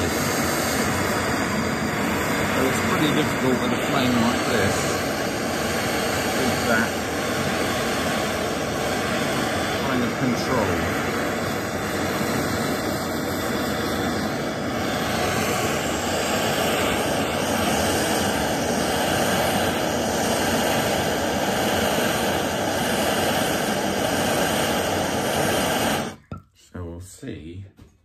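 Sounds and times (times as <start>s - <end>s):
blowtorch flame rushing: 0.0s - 26.3s.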